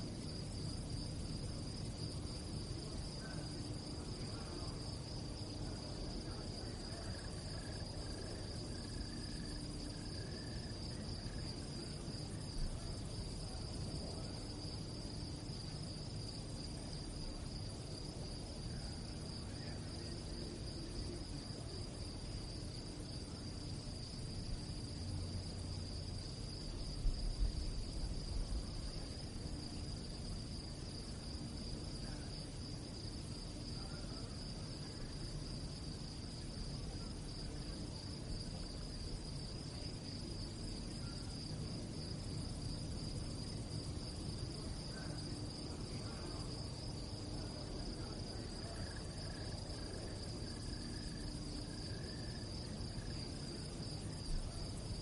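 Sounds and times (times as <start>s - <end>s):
crickets chirping: 0.0s - 55.0s
low background rumble: 0.0s - 55.0s.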